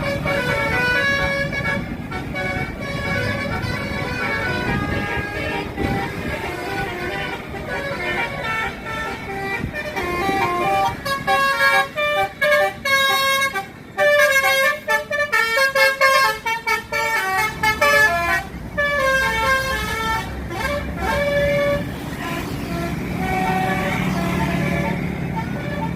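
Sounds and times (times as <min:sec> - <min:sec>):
bus engine rumble: 0:00.0 - 0:25.9
bus horn playing a melody: 0:00.0 - 0:25.9.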